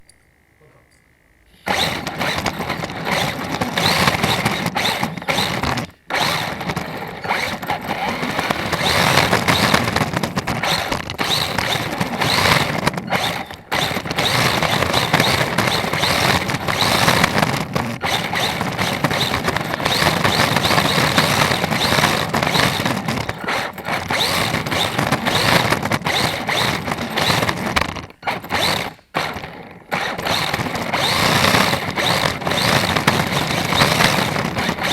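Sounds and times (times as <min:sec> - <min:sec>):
electric motor whining: 0:01.5 - 0:34.9
tyres scrubbing: 0:01.6 - 0:34.9.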